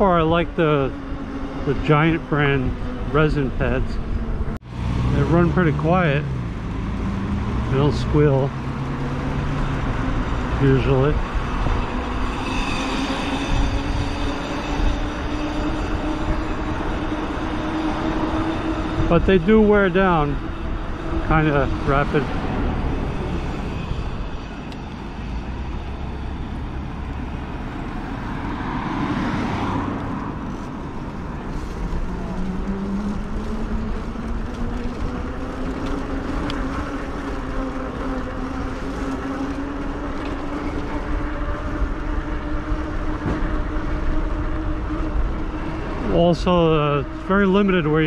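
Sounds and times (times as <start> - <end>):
wind and road noise: 0.0 - 48.0
electric motor whine rising: 0.3 - 48.0.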